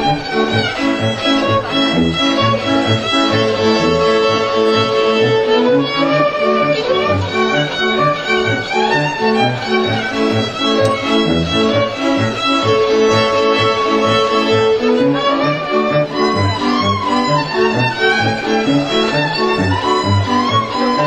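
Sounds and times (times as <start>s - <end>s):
fiddles bowing a tune: 0.0s - 21.0s.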